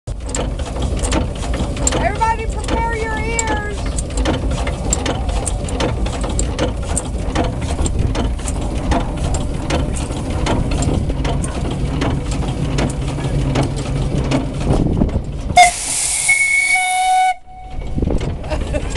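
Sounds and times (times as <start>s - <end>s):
sharp clicking of engine parts: 0.1s - 15.6s
steam engine rumble: 0.1s - 18.9s.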